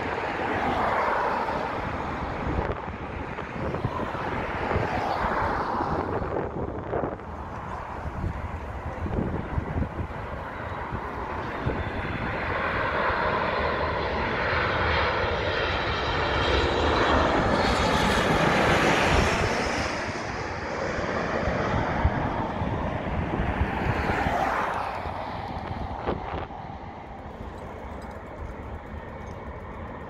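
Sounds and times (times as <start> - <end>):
jet airliner passing overhead: 0.0 - 30.0.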